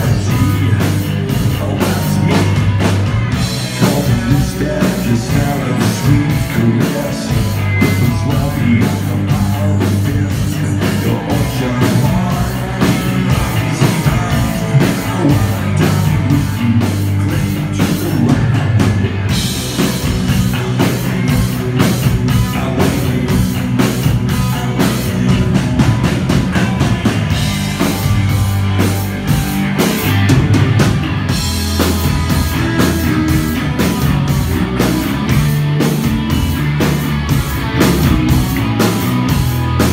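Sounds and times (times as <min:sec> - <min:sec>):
drum kit steady beat: 0:00.0 - 0:39.9
guitar: 0:00.0 - 0:39.9
sustained bass notes: 0:00.0 - 0:39.9.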